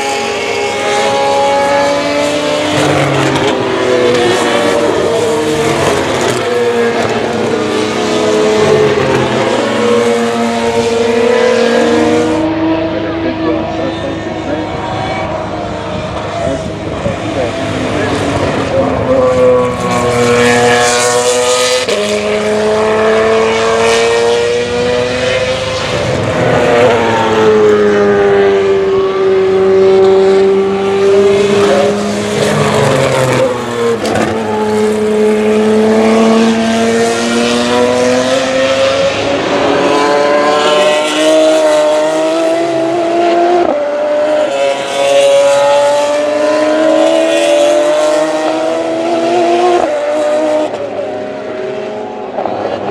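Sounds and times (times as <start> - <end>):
race car engine accelerating: 0.0 - 52.9.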